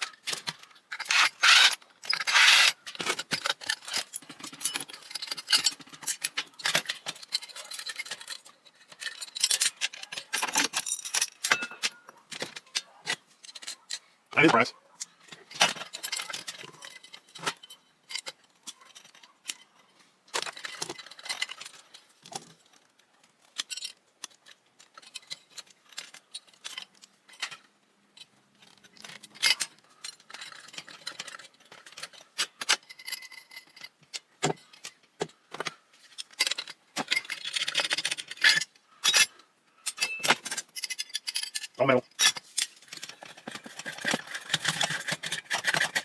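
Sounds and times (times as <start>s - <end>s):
metal parts and tools rattling: 0.0s - 46.0s.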